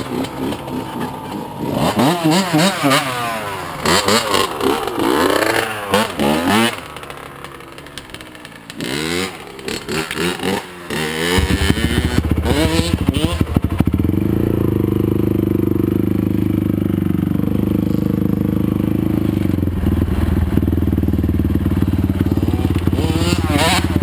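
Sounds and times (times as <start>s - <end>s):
dirt bike engine revving: 0.0s - 24.0s
lower engine note close by: 0.0s - 24.0s.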